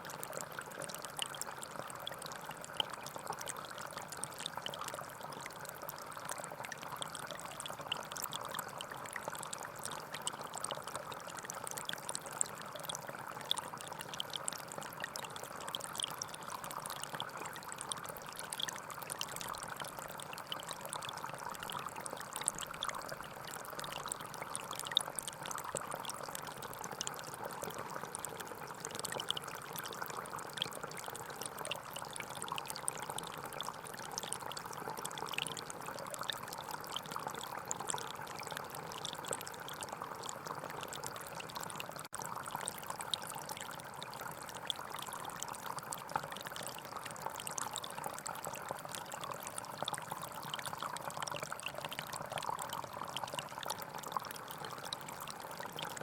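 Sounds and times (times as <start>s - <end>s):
forest stream trickling: 0.0s - 56.0s.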